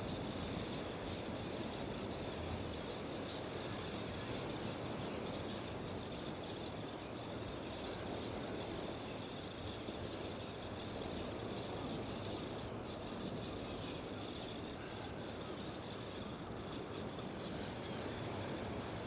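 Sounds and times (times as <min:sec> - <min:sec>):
faint high-pitched whine: 0:00.0 - 0:19.0.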